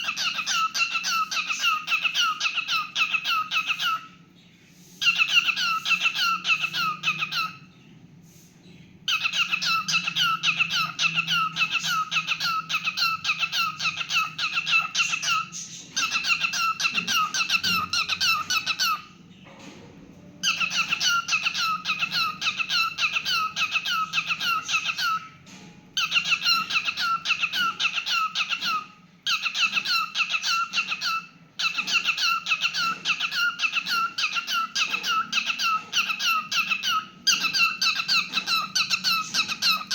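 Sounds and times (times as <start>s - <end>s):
cockatiel chirping: 0.0s - 4.2s, 5.0s - 7.7s, 9.1s - 19.2s, 20.4s - 25.4s, 26.0s - 39.9s.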